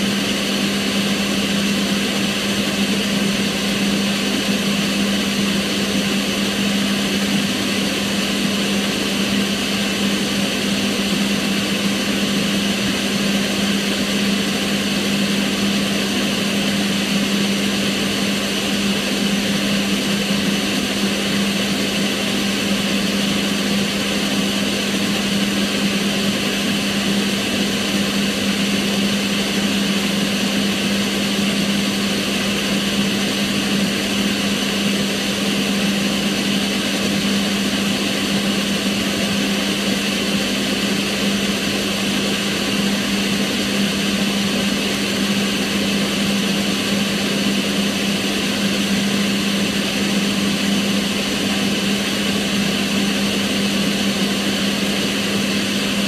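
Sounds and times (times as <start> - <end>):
extractor fan running: 0.0 - 56.0.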